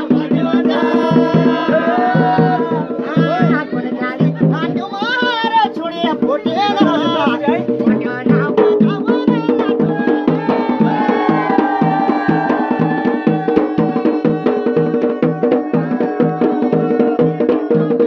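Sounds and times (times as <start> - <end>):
drums playing dance rhythm: 0.0 - 18.0.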